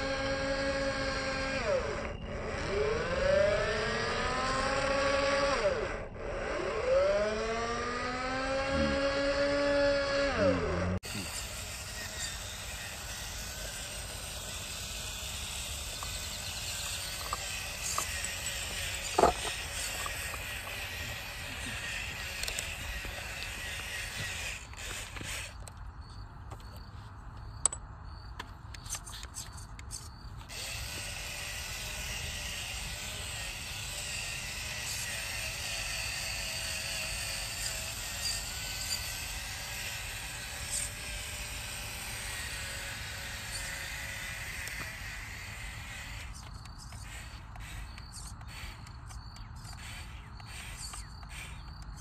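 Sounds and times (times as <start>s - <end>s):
toy electric motors whirring: 0.0s - 26.9s, 27.6s - 52.0s.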